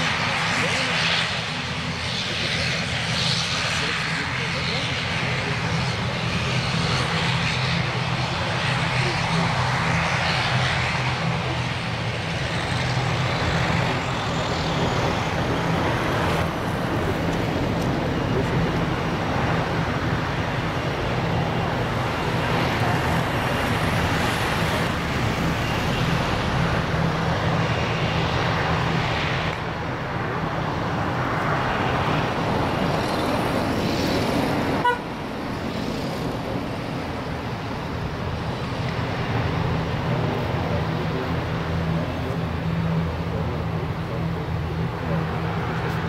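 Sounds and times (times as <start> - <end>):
turboprop engines and propellers humming: 0.0 - 46.0.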